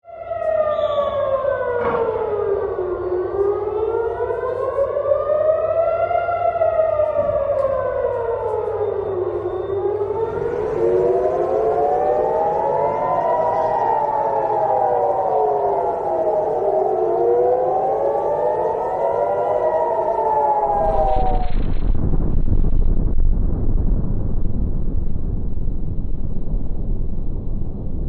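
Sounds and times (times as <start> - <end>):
air raid sirens wailing: 0.0 - 22.7.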